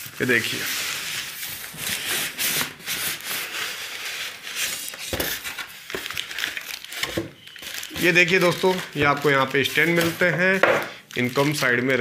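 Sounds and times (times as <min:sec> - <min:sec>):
cardboard packaging rubbing and scraping: 0:00.0 - 0:10.6.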